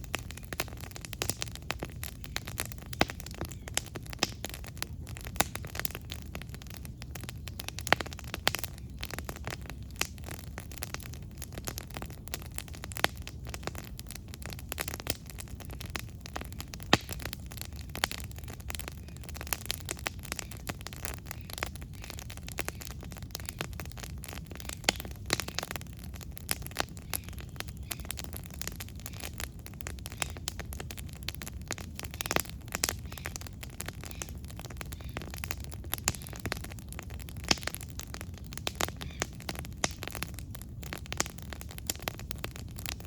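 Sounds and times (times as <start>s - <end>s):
campfire wood crackling and popping: 0.0s - 43.0s
fire low rumble: 0.0s - 43.0s.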